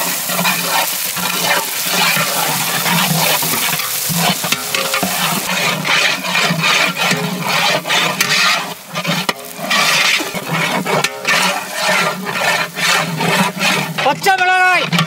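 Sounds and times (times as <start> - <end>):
ladle scraping a pot: 0.0 - 15.0
oil sizzling: 0.0 - 15.0.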